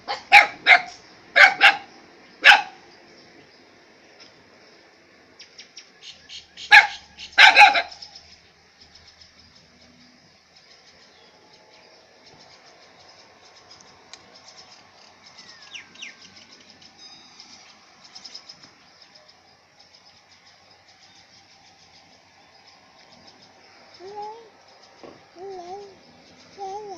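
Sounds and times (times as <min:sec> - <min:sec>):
faint birds chirping: 0:00.0 - 0:26.9.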